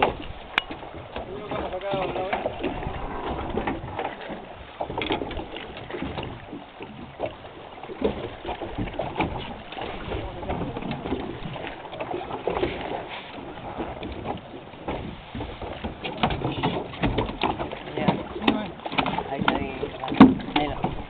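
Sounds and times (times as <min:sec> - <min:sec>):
knocks and splashy clatter: 0:00.0 - 0:21.0.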